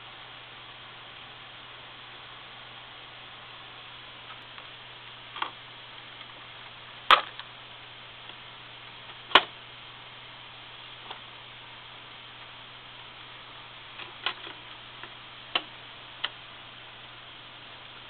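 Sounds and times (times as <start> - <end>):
record surface hiss: 0.0 - 18.0.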